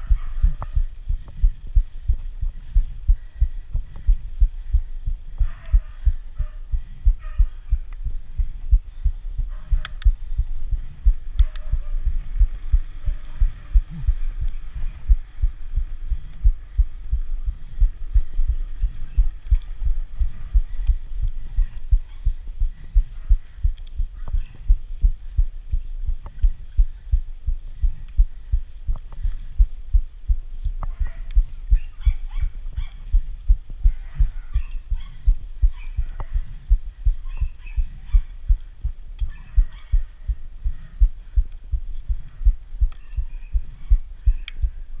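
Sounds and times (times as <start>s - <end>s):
deep rhythmic thumping: 0.0s - 45.0s.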